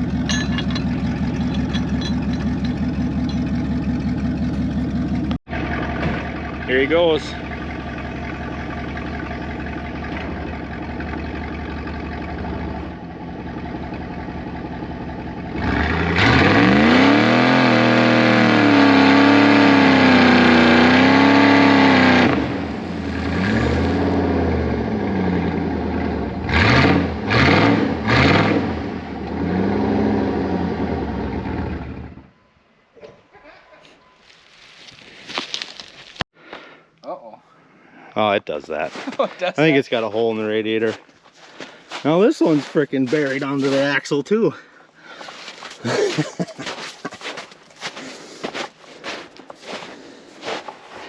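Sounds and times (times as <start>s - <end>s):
truck engine idling and revving: 0.0s - 36.3s, 39.5s - 44.4s, 45.1s - 51.0s.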